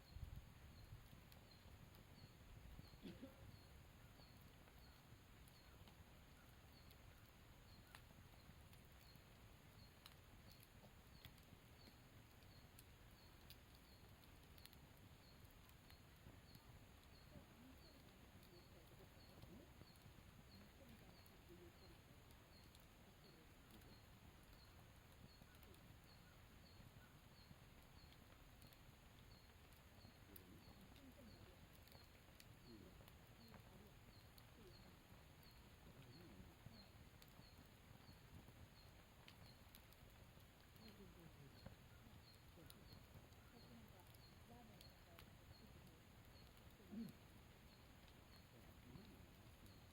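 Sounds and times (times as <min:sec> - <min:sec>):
campfire crackling: 0:00.0 - 0:49.9.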